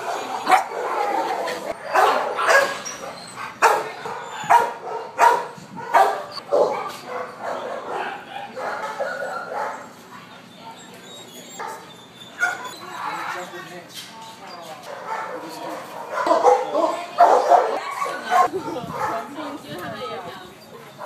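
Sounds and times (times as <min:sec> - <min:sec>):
dogs barking: 0:00.0 - 0:10.0, 0:11.3 - 0:13.6, 0:14.8 - 0:19.5.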